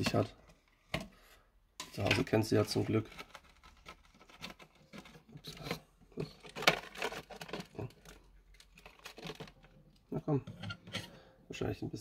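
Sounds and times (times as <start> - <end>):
container handling clicks and scrapes: 0.0 - 11.3.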